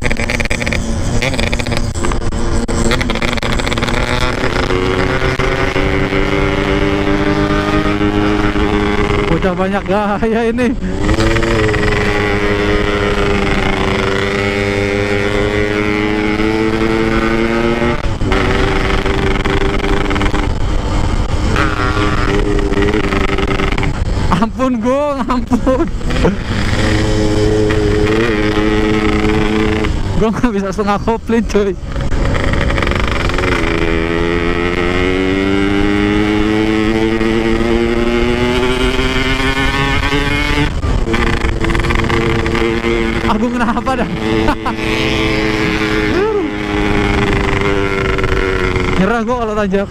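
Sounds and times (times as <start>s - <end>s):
motorcycle engine under load: 0.0s - 49.9s
wind rumble on microphone: 0.0s - 49.9s.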